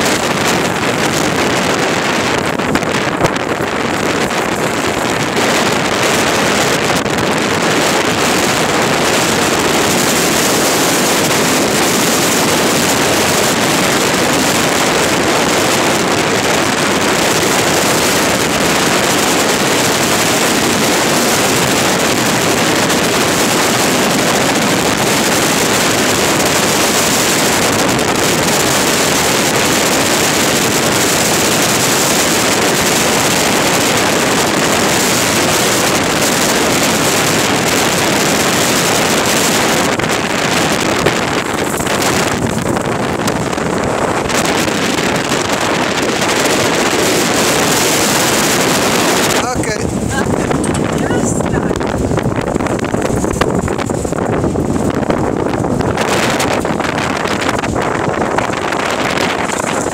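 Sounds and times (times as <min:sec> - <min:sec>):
vehicle driving on dirt road: 0:00.0 - 0:59.9
wind blowing over microphone: 0:00.0 - 0:59.9.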